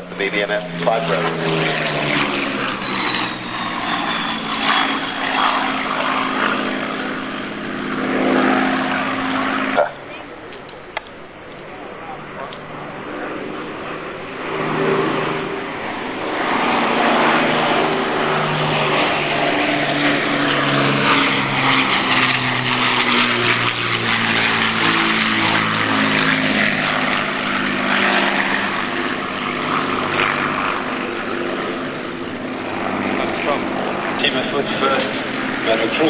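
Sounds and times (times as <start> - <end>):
piston aircraft engines droning: 0.0 - 36.0.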